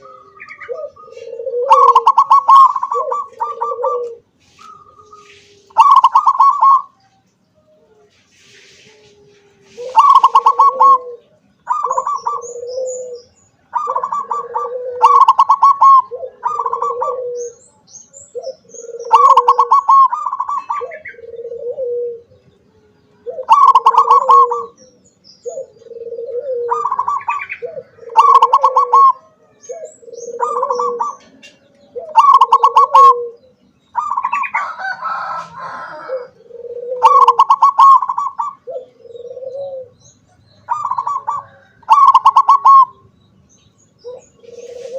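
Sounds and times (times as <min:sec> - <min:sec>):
dove trilling and cooing: 0:00.0 - 0:44.9
small birds chirping: 0:00.0 - 0:44.9.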